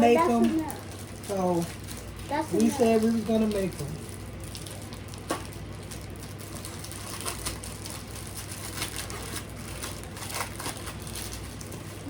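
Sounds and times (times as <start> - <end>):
wrapper crinkling: 0.0 - 12.0
crackers snapping: 0.5 - 12.0.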